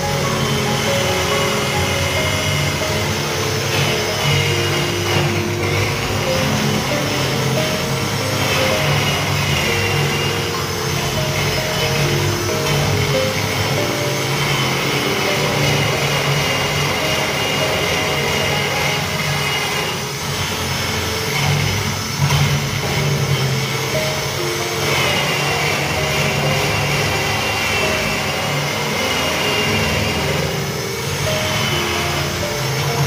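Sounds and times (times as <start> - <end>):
background music: 0.0 - 33.0
electric drill whining: 0.0 - 33.0.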